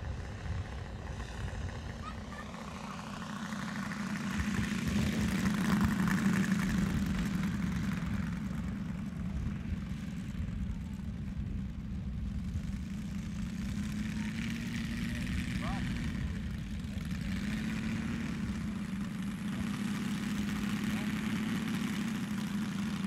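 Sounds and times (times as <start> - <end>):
model plane engine running: 0.0 - 23.0.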